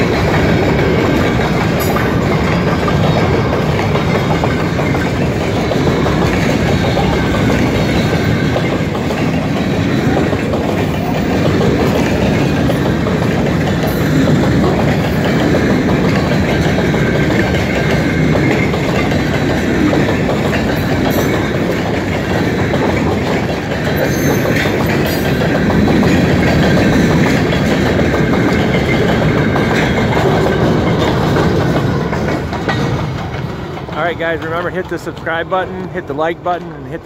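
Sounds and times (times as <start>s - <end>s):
clicks over rail joints: 0.0s - 37.0s
train wheels rumbling on rails: 0.0s - 37.0s.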